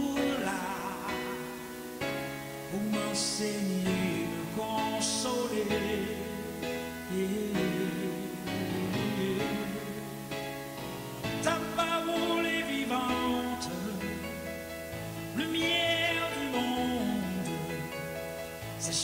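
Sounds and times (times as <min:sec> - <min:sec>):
gospel singing with accompaniment: 0:00.0 - 0:19.0.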